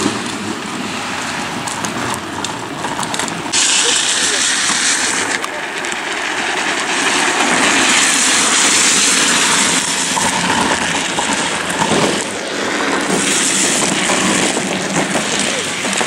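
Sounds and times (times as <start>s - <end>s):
plastic wheels scraping on asphalt: 0.0s - 16.0s.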